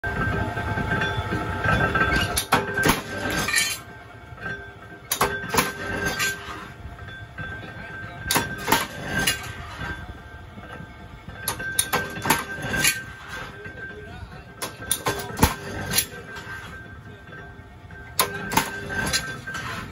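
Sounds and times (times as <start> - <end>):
punch press whine: 0.0 - 19.9
sharp metallic clanks: 0.0 - 19.9.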